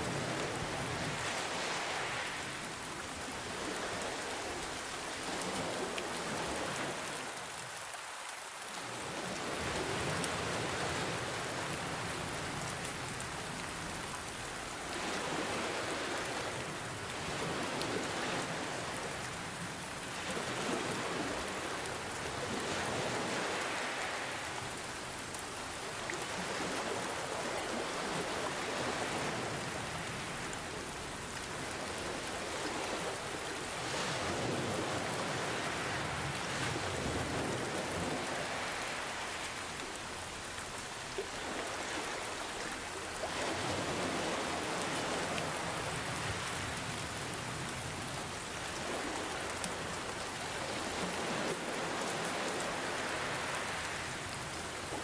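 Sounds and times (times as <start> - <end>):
ocean waves washing: 0.0 - 7.7, 9.0 - 55.0
steady rain: 0.0 - 55.0.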